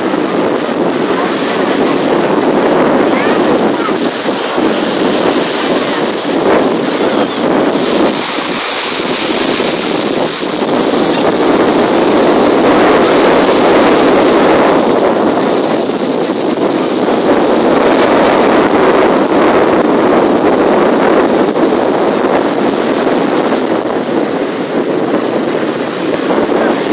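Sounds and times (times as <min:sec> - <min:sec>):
rough sea waves surging: 0:00.0 - 0:26.9
wind buffeting microphone: 0:00.0 - 0:26.9.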